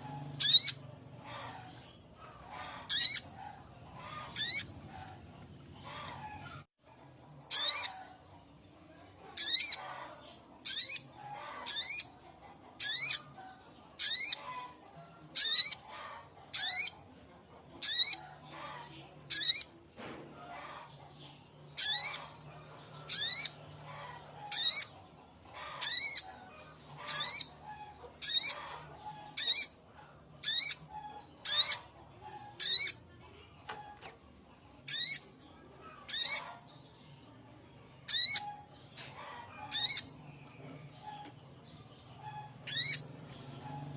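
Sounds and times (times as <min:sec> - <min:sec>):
high-pitched bird calls: 0:00.0 - 0:05.0, 0:07.3 - 0:08.3, 0:09.3 - 0:17.1, 0:17.7 - 0:19.8, 0:20.4 - 0:37.3, 0:37.9 - 0:43.9.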